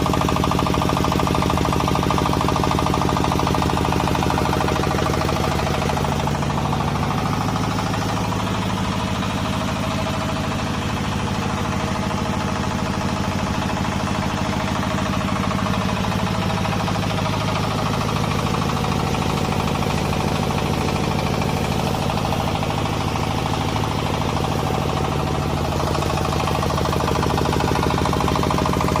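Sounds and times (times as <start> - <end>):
flour mill humming and rattling: 0.0 - 29.0.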